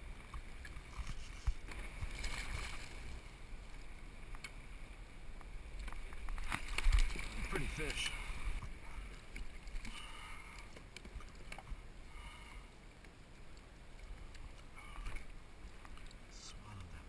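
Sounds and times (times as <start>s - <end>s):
water lapping against kayak hull: 0.0s - 17.0s.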